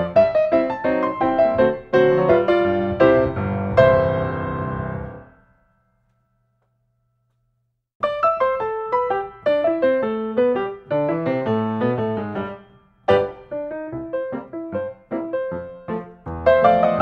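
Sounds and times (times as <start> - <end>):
piano music: 0.0 - 5.6, 8.0 - 17.0.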